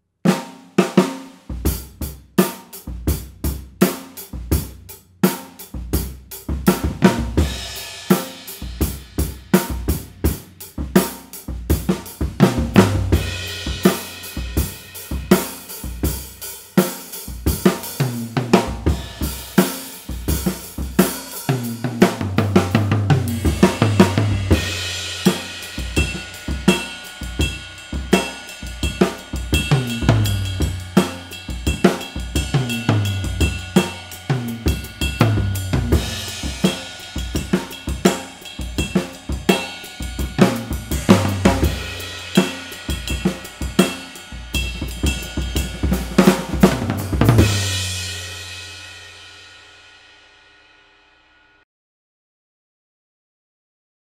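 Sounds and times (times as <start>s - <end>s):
drum kit playing rock groove: 0.3s - 49.9s
crash cymbals: 5.3s - 51.6s.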